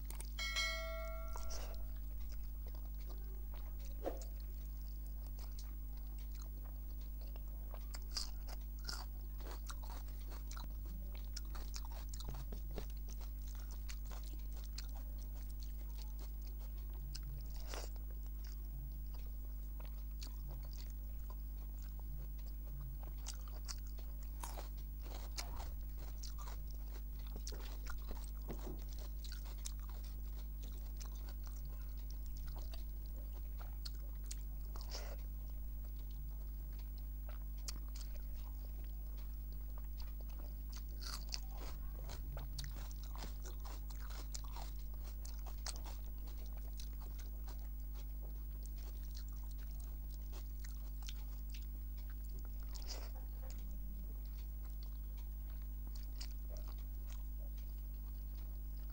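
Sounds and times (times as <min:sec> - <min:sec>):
low electrical hum: 0:00.0 - 0:58.9
person chewing food: 0:00.0 - 0:58.9.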